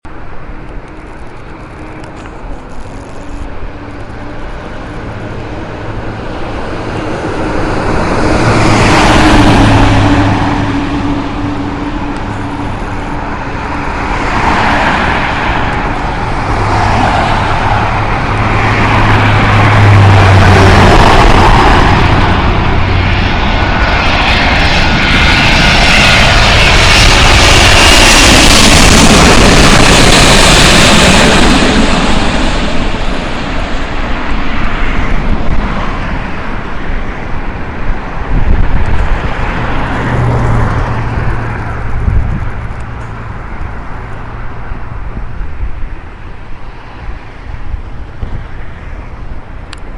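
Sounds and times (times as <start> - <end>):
jet engines roaring: 0.1 - 49.9.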